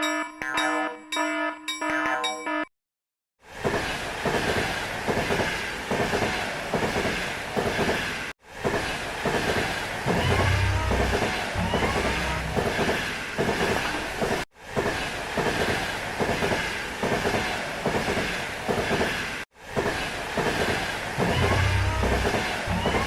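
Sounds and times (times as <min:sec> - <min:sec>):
train wheels clacking on rails: 0:03.6 - 0:23.0.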